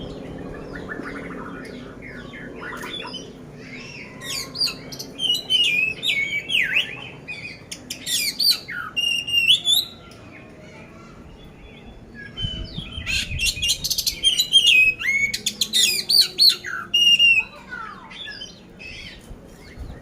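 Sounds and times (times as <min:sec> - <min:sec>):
bird singing varied song: 0:00.0 - 0:20.0.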